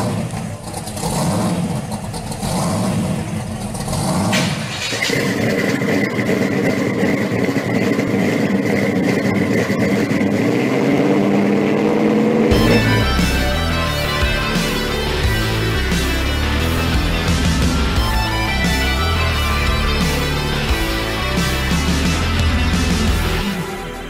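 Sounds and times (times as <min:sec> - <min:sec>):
supercharged car engine rumbling: 0:00.0 - 0:24.0.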